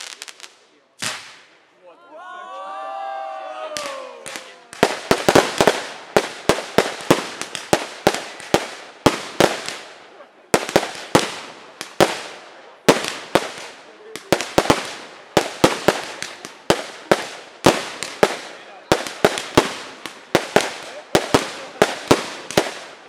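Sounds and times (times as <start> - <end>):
fireworks bangs echoing: 0.0 - 1.6, 3.7 - 23.0.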